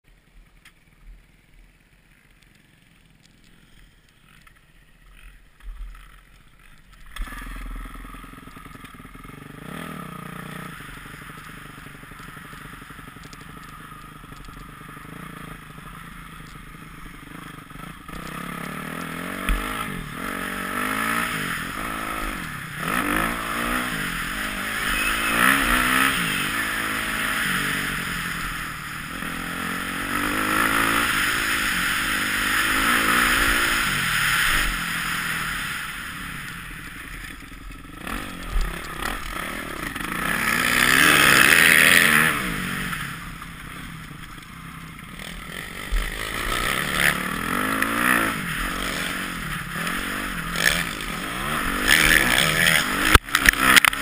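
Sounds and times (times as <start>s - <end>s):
dirt bike engine revving: 7.1s - 54.0s.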